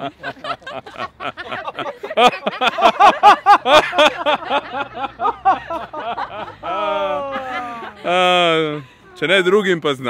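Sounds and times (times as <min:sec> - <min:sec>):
people laughing heartily: 0:00.0 - 0:09.2.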